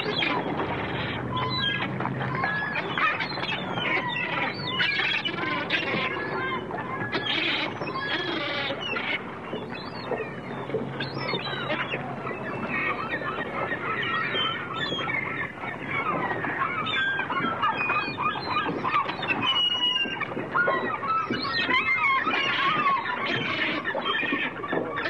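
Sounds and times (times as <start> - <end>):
gulls squawking: 0.0 - 25.0.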